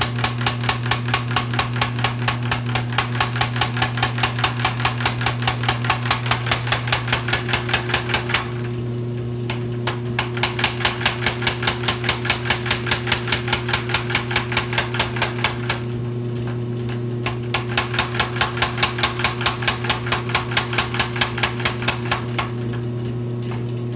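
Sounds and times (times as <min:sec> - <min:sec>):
power hammer striking steel bar: 0:00.0 - 0:08.6, 0:10.2 - 0:15.8, 0:17.3 - 0:22.6.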